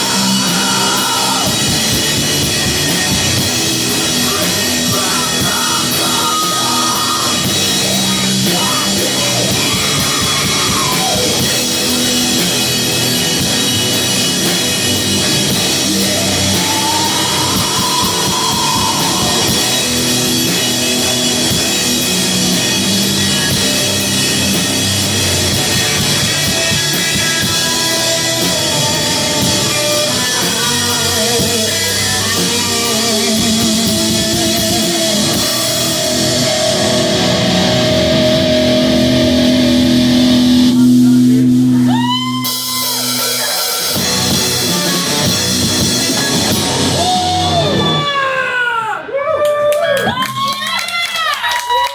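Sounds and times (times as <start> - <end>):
drum kit: 0.0 - 48.3
distorted guitars: 0.0 - 51.9.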